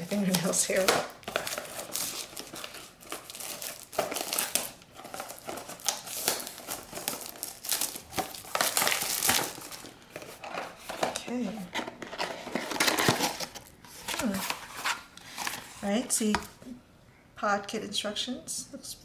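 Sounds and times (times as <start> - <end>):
packaging crinkling and rustling: 0.0 - 16.6.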